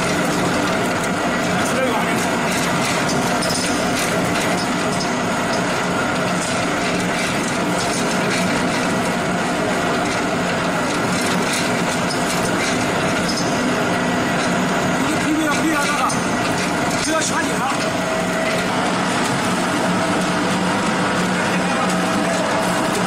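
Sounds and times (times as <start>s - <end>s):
machine hum: 0.0s - 23.0s
pellet mill mechanical rattle: 0.0s - 23.0s.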